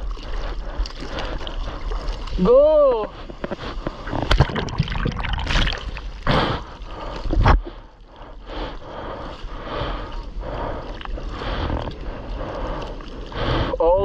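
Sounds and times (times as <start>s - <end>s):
seawater splashing and rushing: 0.0s - 14.0s.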